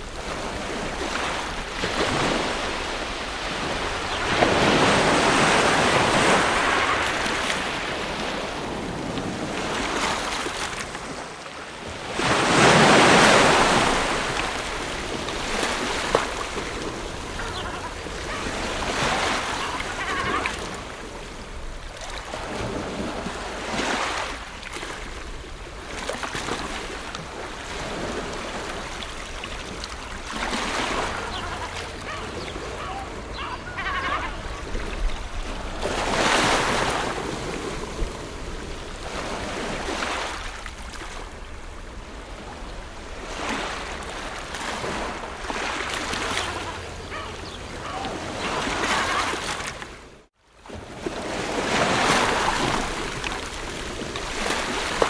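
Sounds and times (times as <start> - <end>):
ocean surf washing on shore: 0.0 - 55.0.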